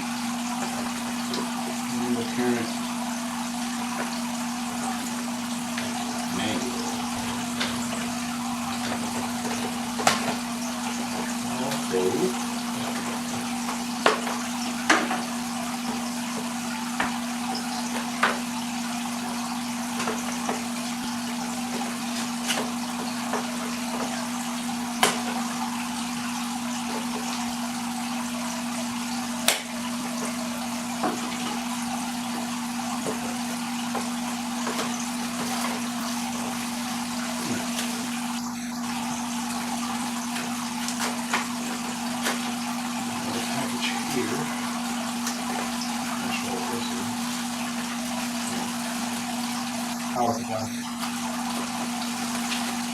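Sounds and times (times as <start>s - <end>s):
aquarium water circulating: 0.0s - 52.9s.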